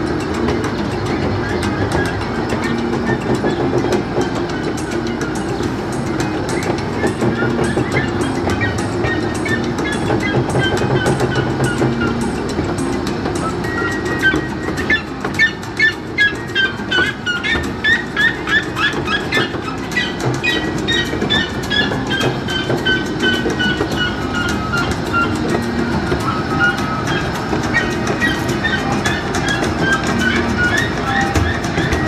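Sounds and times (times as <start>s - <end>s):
miniature train rumbling: 0.0s - 32.0s
rhythmic high-pitched squeal: 0.0s - 32.0s.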